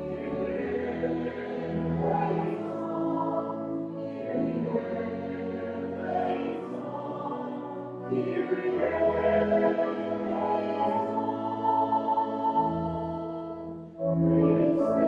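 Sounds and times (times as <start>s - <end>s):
choir singing slowly: 0.0s - 15.0s.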